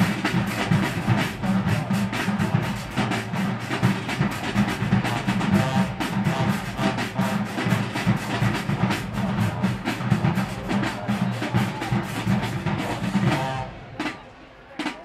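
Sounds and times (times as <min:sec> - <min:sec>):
drumline drumming: 0:00.0 - 0:15.0
marching band playing: 0:00.0 - 0:15.0.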